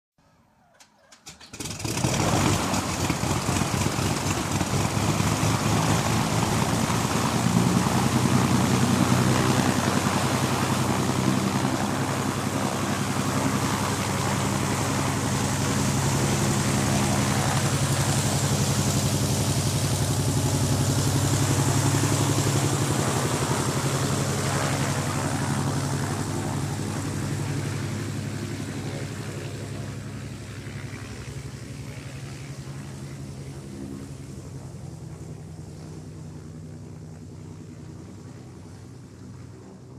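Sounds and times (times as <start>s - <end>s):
plane piston engine and propeller: 0.8s - 39.9s.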